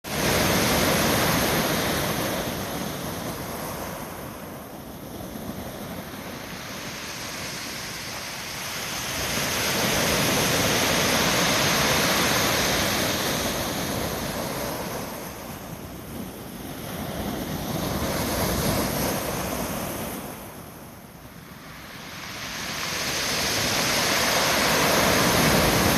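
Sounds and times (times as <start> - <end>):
heavy surf waves breaking: 0.1 - 25.9.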